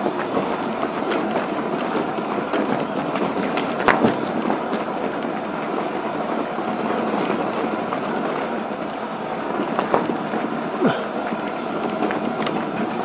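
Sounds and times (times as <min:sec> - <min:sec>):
bike jolting over bumps: 0:00.0 - 0:13.0
bike tyres rumbling over rough ground: 0:00.0 - 0:13.0.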